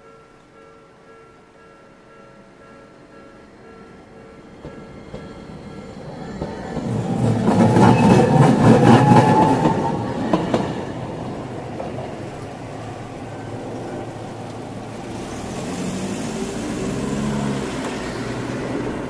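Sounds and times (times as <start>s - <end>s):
tram passing: 0.0s - 19.0s.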